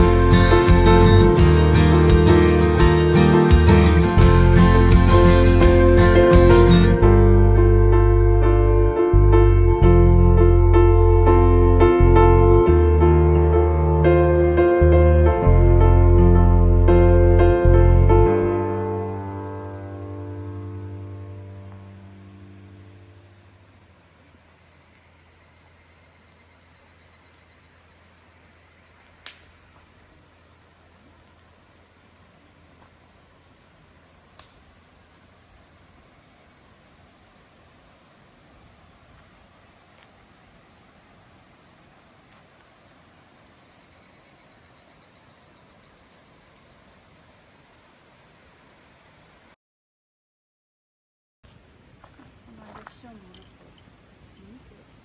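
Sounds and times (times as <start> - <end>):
insects chirring: 0.0 - 49.6, 52.0 - 55.0.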